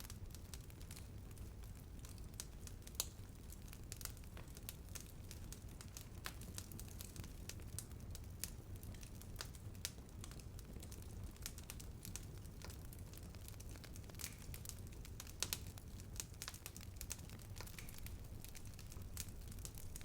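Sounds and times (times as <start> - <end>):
bonfire flames rumbling: 0.0 - 20.0
burning wood crackling: 0.0 - 20.0.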